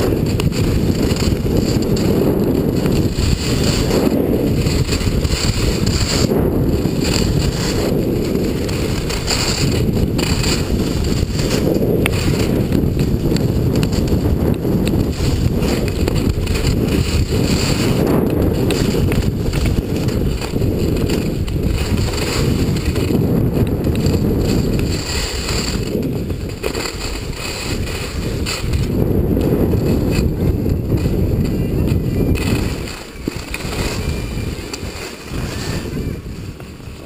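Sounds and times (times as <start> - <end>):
skis hissing over snow: 0.0 - 37.0
wind buffeting microphone: 0.0 - 37.0.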